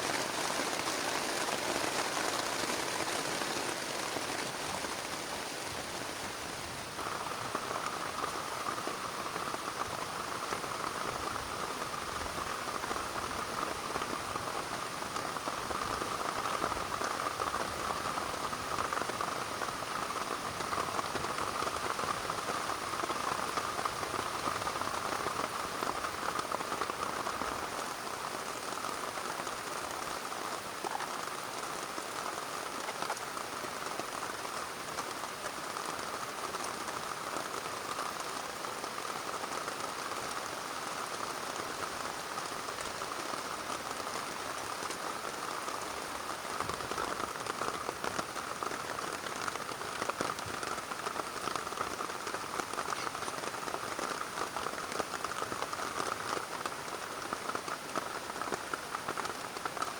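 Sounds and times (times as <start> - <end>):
heavy rain on plastic tarp: 0.0 - 59.9.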